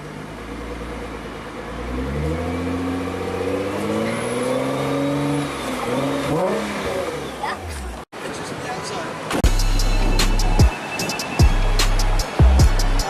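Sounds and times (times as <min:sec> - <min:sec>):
car engine revving: 0:00.0 - 0:08.1, 0:09.4 - 0:13.0.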